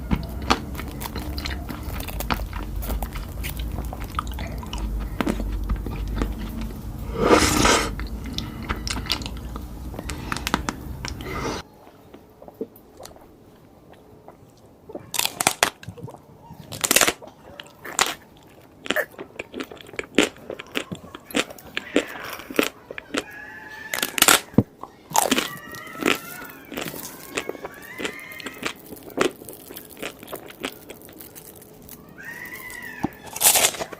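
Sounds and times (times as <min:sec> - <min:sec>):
crunchy chewing: 0:00.0 - 0:33.9.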